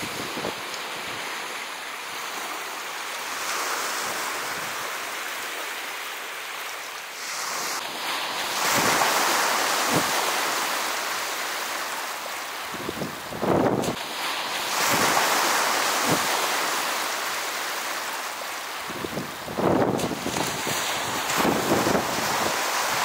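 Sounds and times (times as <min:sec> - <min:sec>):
waves washing over pebbles: 0:00.0 - 0:23.0.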